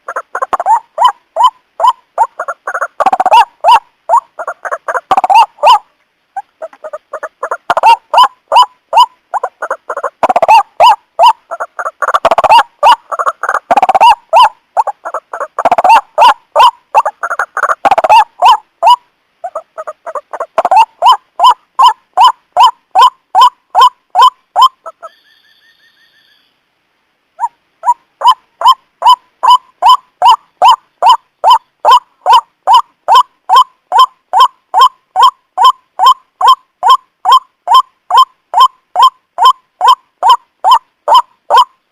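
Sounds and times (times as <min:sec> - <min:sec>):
waterhen harsh croaking calls: 0:00.0 - 0:26.5, 0:27.4 - 0:41.9.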